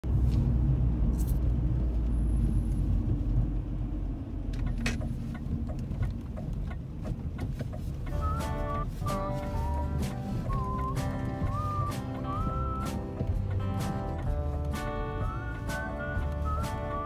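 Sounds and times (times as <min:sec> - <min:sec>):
car cabin driving rumble: 0:00.0 - 0:17.0.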